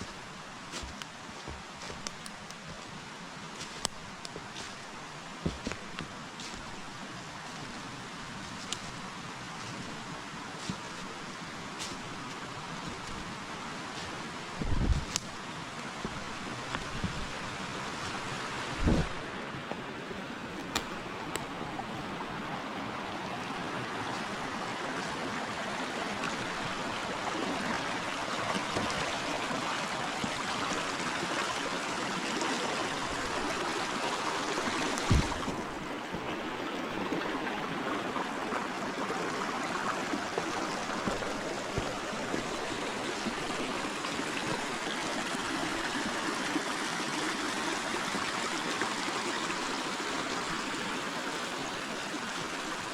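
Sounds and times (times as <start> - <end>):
water trickling: 0.0 - 19.0, 20.8 - 52.9
river water rushing: 0.0 - 52.9.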